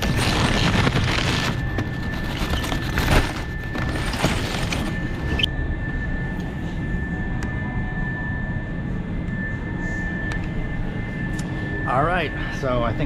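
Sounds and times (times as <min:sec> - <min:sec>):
high-pitched hum: 0:00.0 - 0:13.0.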